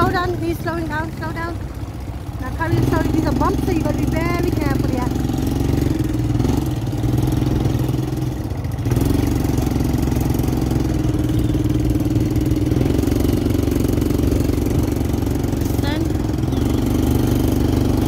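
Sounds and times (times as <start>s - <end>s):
quad bike engine humming: 0.0s - 18.0s.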